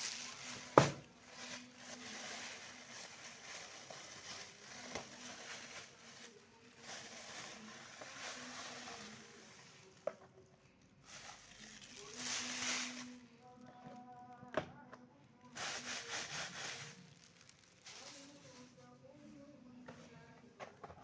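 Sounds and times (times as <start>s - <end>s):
plastic packaging rustling: 0.0s - 10.1s, 11.0s - 14.4s, 15.4s - 19.0s.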